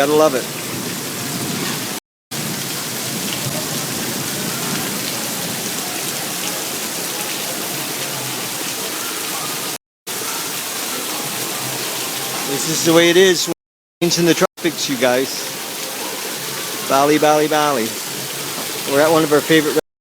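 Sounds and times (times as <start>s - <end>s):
heavy rain pouring: 0.0s - 19.8s.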